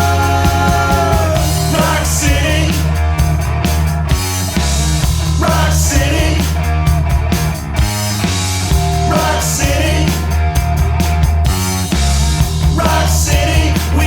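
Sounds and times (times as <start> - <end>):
bass and guitars: 0.0 - 14.0
drum beat: 0.0 - 14.0.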